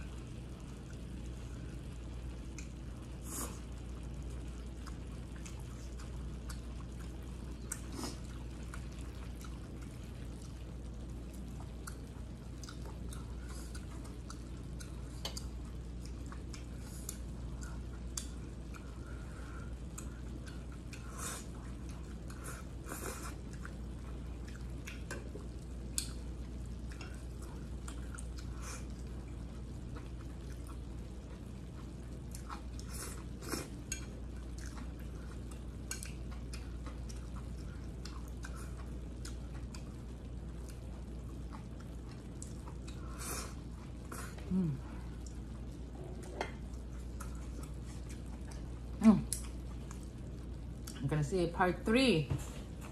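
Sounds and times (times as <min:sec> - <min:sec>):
steady low hum: 0:00.0 - 0:52.9
wet chewing and slurping noodles: 0:02.6 - 0:51.0.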